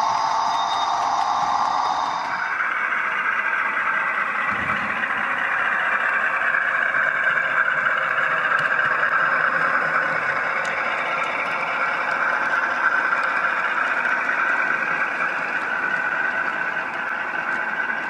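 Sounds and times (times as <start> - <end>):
diesel engine sound from small speaker: 0.0 - 18.0.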